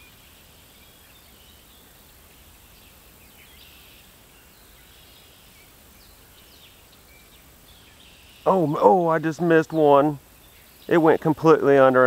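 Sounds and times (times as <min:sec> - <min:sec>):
birds chirping: 0:00.0 - 0:12.0
steady low hiss: 0:00.0 - 0:12.0.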